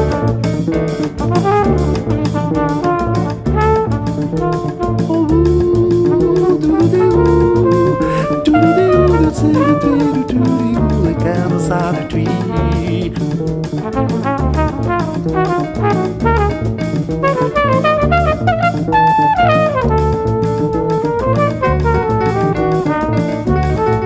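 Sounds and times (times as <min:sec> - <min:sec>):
jazz sextet playing: 0:00.0 - 0:24.0.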